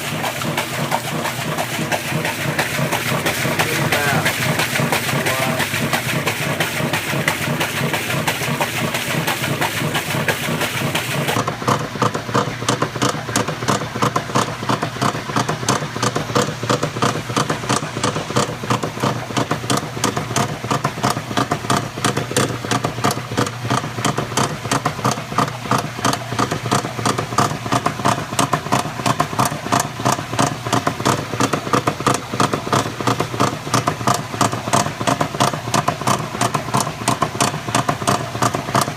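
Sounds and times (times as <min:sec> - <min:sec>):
washing machine knocking and clattering: 0:00.0 - 0:38.9.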